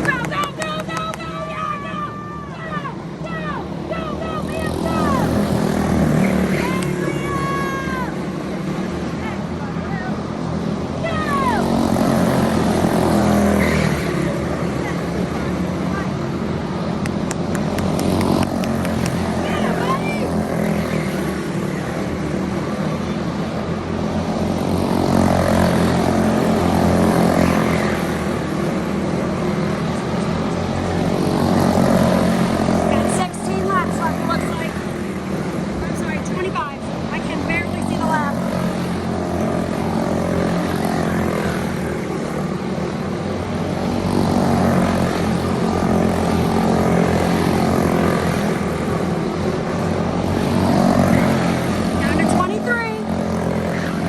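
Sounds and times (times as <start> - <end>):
racing kart engines at high revs: 0.0 - 54.0.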